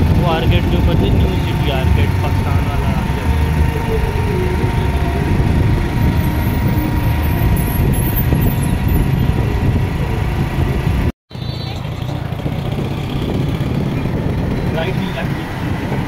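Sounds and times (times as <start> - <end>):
road noise: 0.0 - 16.0
vehicle engine: 0.0 - 16.0.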